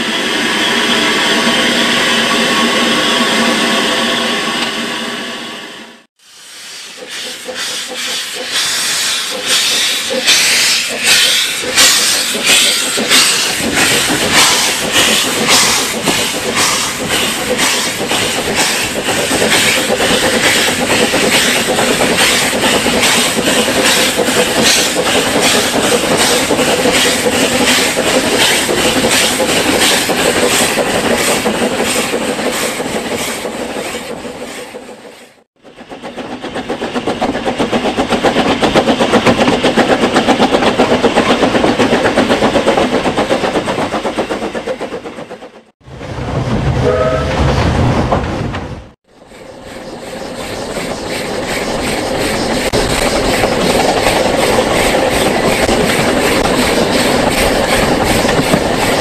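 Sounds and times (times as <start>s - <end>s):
steam locomotive beats: 0.0s - 59.0s
wheels rumbling on rails: 7.0s - 59.0s.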